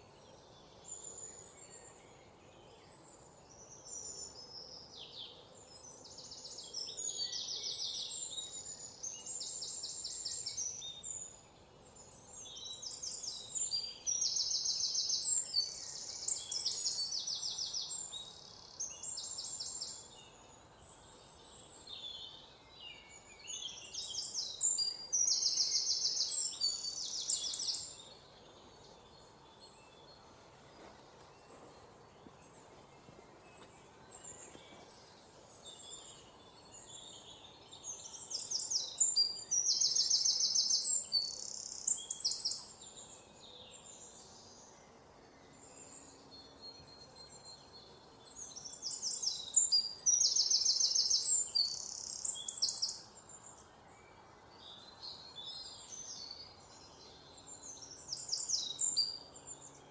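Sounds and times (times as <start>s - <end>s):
faint outdoor background: 0.0s - 59.9s
songbirds trilling and chirping: 0.0s - 59.9s.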